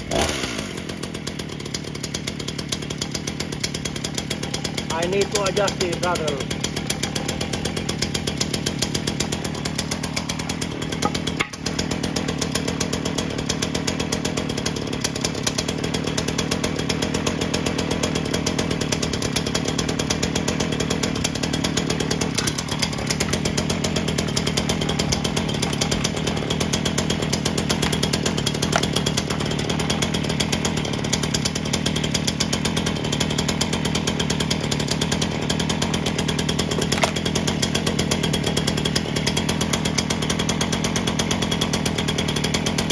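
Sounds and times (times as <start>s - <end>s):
chainsaw engine running: 0.0s - 42.9s.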